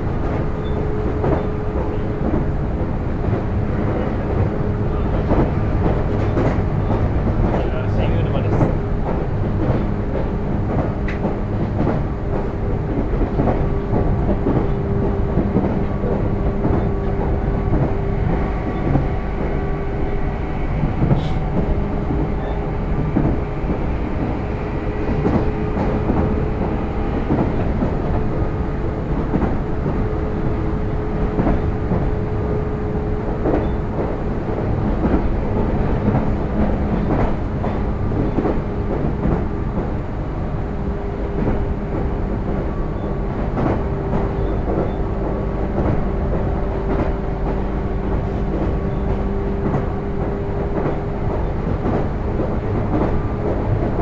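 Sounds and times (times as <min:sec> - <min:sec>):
electric train rumbling: 0:00.0 - 0:54.0.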